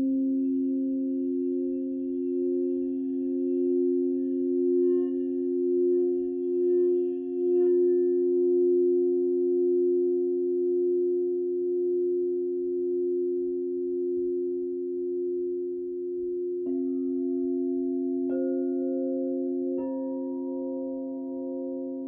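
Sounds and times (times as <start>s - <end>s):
crystal singing bowls ringing: 0.0s - 22.0s.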